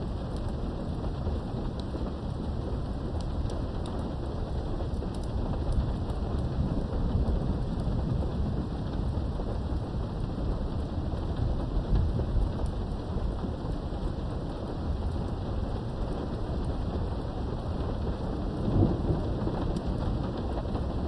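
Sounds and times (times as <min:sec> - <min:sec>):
deep rumble of thunder: 0:00.0 - 0:21.0
raindrop ticks: 0:00.0 - 0:21.0
steady rain: 0:00.0 - 0:21.0.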